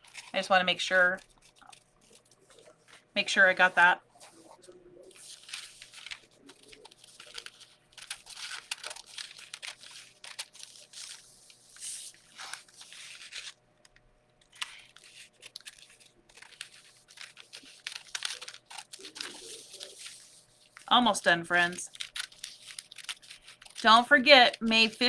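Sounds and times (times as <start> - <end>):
sheet crinkling: 0.0 - 25.0.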